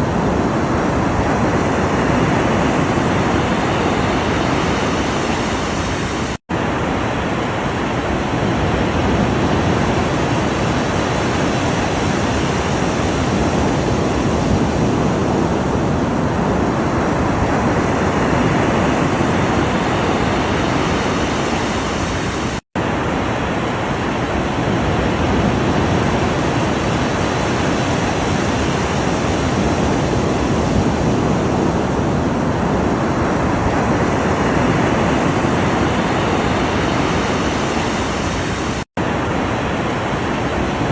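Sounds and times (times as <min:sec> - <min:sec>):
ocean surf: 0:00.0 - 0:40.9.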